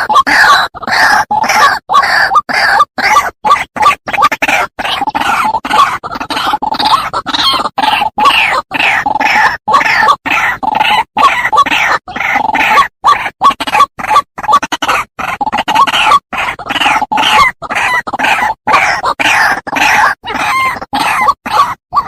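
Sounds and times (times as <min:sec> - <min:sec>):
waterhen calls: 0:00.0 - 0:22.0.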